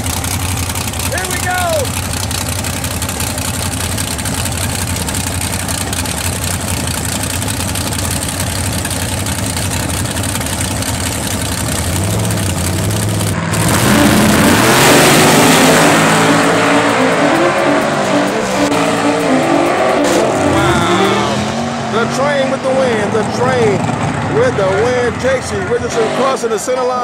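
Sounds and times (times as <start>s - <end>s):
drag car engines: 0.0s - 27.0s.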